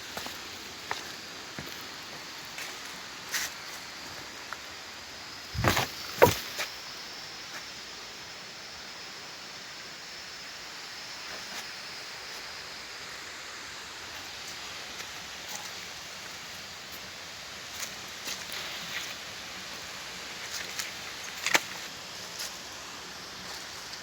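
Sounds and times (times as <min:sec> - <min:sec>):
steady rushing hiss: 0:00.0 - 0:24.0.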